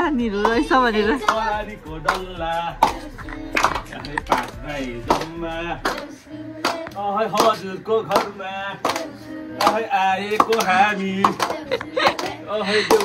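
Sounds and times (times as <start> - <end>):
people chanting in sing-song voice: 0.0 - 13.0
steady percussive beat: 0.0 - 13.0.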